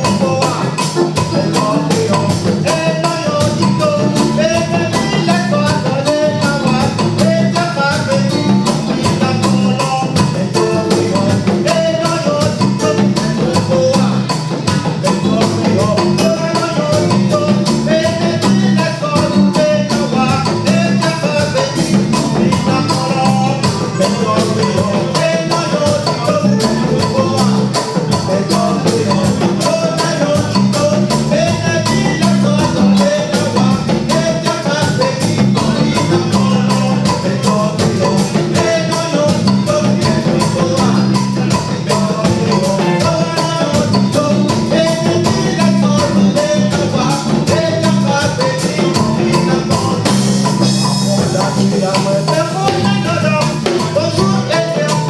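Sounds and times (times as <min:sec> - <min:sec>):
music with fast percussion beat: 0:00.0 - 0:55.0.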